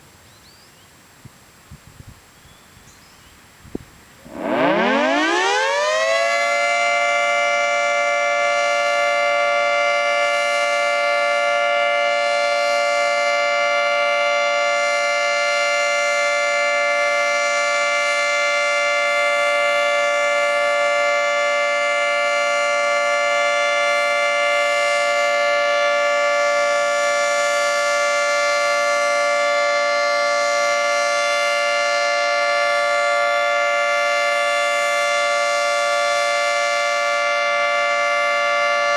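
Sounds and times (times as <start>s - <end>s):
two-tone warning siren: 4.2s - 38.9s.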